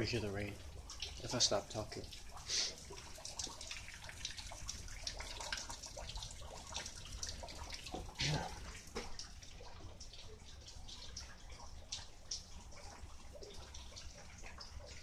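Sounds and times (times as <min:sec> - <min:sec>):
rain falling outside: 0:00.0 - 0:15.0.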